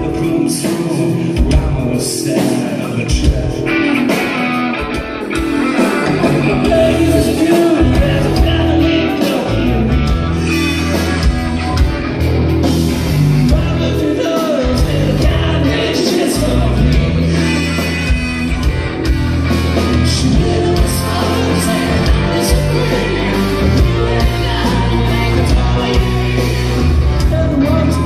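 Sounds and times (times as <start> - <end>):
lead singing: 0.0 - 11.2, 13.5 - 18.6, 19.8 - 28.0
bass: 0.0 - 28.0
distorted electric guitars: 0.0 - 28.0
drums: 0.0 - 28.0.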